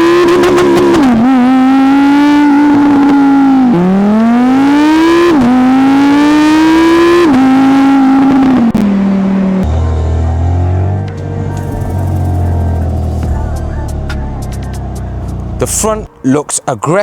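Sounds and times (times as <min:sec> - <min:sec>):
sports car engine accelerating: 0:00.0 - 0:16.2.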